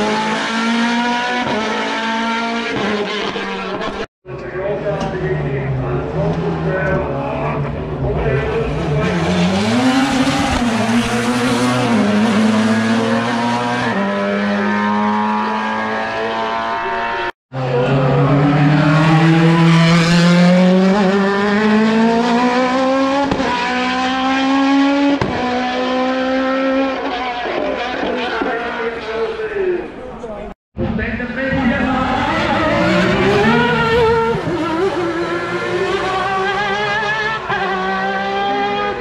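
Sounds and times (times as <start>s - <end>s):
racing car engine accelerating: 0.0s - 4.1s, 4.7s - 29.0s, 30.8s - 39.0s.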